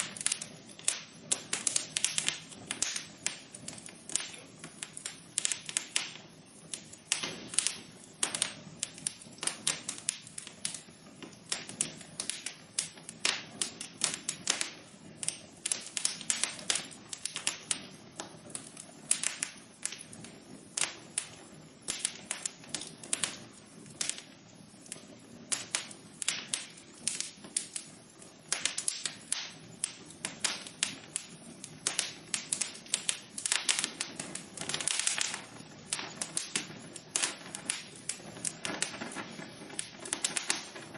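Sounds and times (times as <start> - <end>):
rush of flames: 0.0 - 40.9
wood fire crackling: 0.0 - 40.9.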